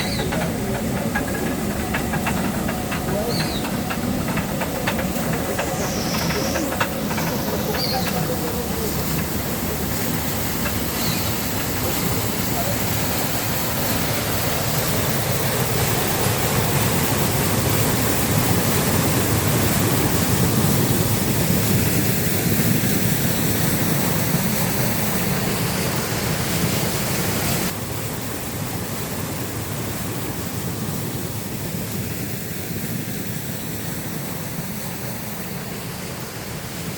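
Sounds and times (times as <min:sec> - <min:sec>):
water rushing through mill: 0:00.0 - 0:36.9.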